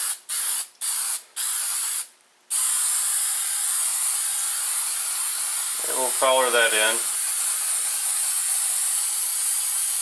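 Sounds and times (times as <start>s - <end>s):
spray-paint can hissing: 0.0s - 10.0s.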